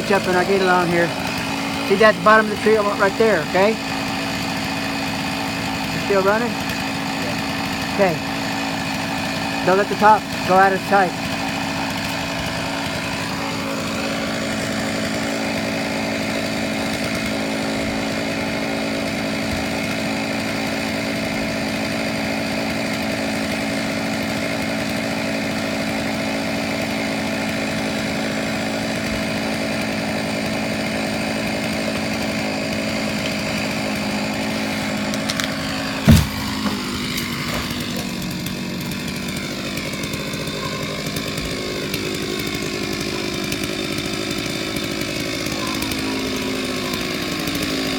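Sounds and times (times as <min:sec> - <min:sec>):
chainsaw cutting tree trunk: 0:00.0 - 0:47.9.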